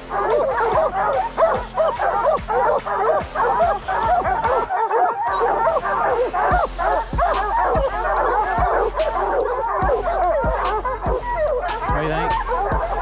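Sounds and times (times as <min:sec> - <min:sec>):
pack of hounds barking: 0:00.0 - 0:13.0.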